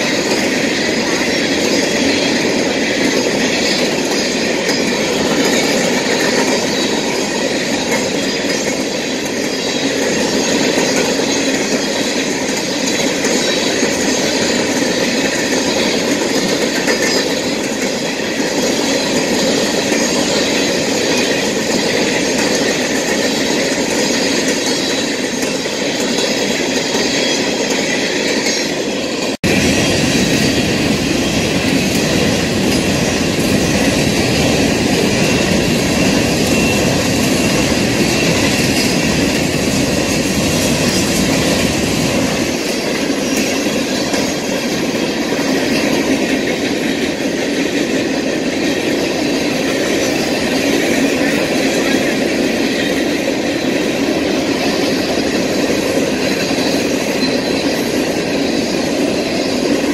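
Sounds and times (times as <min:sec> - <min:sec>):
freight train wheels clattering on rails: 0:00.0 - 0:59.9.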